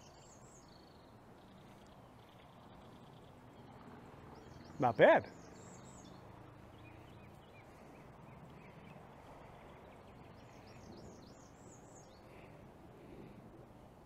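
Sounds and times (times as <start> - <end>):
bird chirps: 0.0 - 12.5
quiet outdoor background: 0.0 - 14.0.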